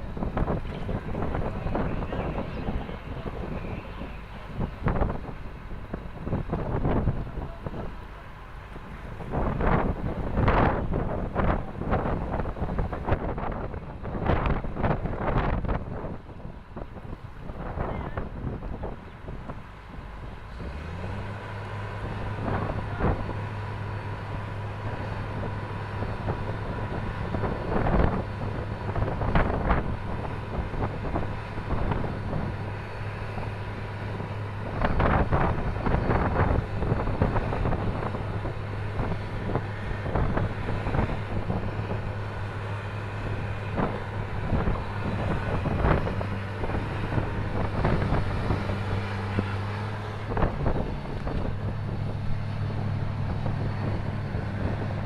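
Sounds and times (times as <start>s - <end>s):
tugboat engine humming: 0.0s - 55.0s
wind buffeting microphone: 0.0s - 55.0s.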